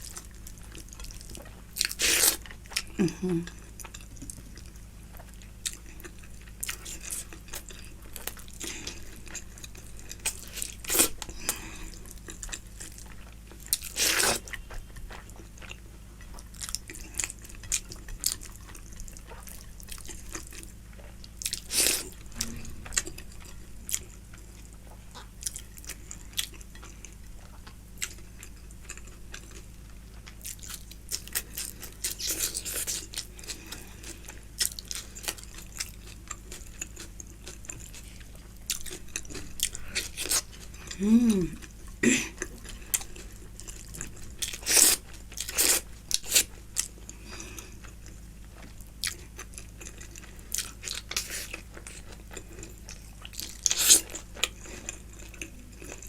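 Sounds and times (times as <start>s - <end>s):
chewing and crunching: 0.0s - 56.0s.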